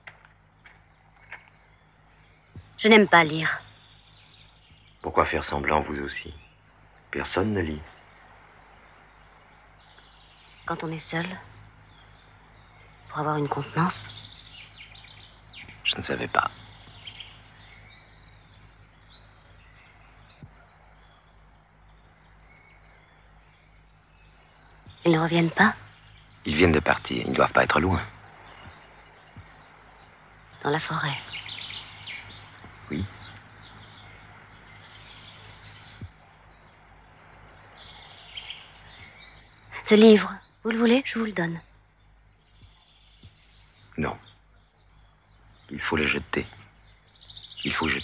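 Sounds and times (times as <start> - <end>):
faint birdsong chirps: 0.0 - 48.0
low hum: 0.0 - 48.0
steady background hiss: 0.0 - 48.0.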